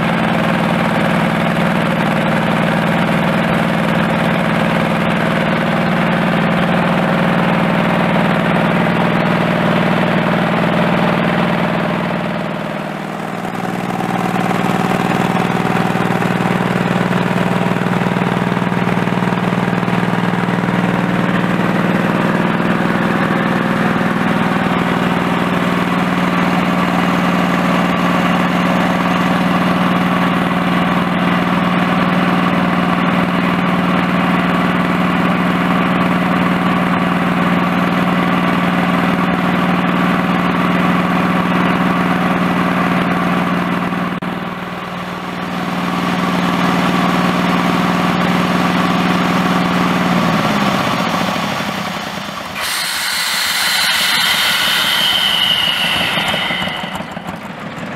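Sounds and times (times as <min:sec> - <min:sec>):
small tractor engine running: 0:00.0 - 0:57.9.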